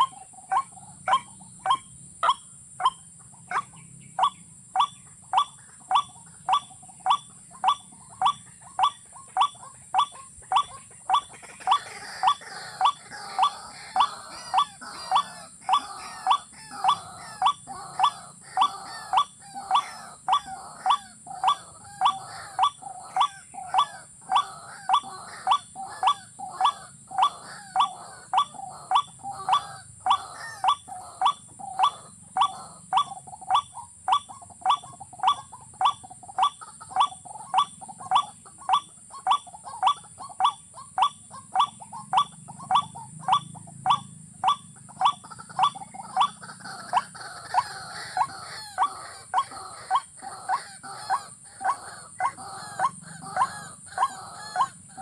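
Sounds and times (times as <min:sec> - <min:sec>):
bird call rising notes: 0:01.1 - 0:55.0.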